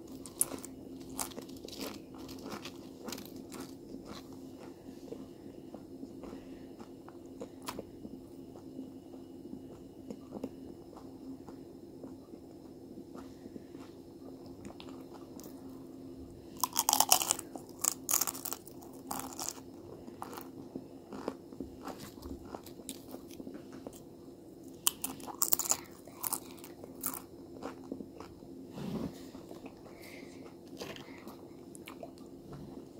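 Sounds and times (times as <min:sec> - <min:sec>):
crunching and chewing crisp snack: 0:00.0 - 0:08.8, 0:09.5 - 0:28.6, 0:29.3 - 0:32.4
steady low hum: 0:00.0 - 0:32.9.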